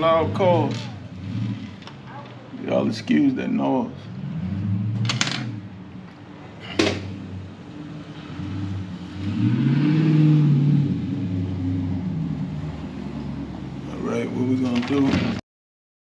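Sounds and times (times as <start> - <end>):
car driving past: 0.0 - 15.4.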